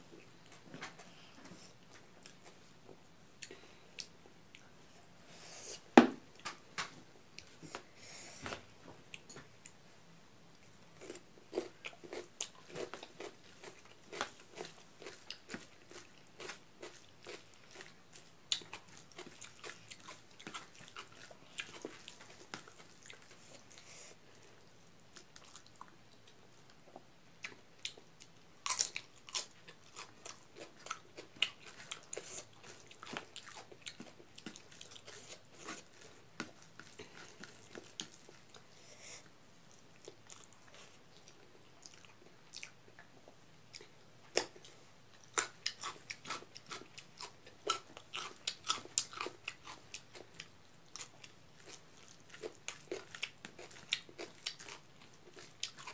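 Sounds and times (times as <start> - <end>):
chewing and crunching food: 0.1 - 4.8, 10.5 - 55.9.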